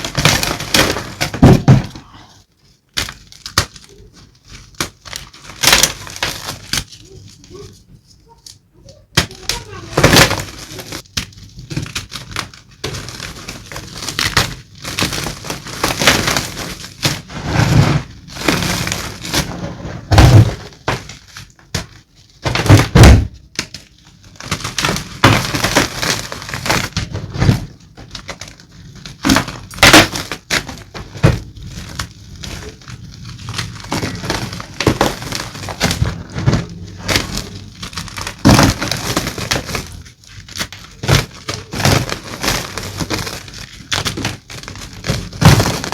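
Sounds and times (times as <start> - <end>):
chalk blocks crunching and cracking: 0.0 - 45.9.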